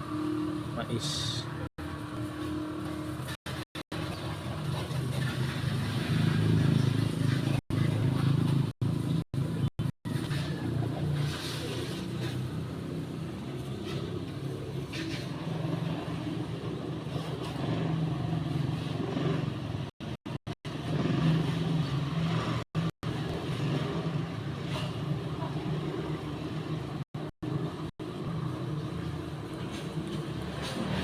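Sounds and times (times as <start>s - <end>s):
low motor hum: 0.0s - 31.0s.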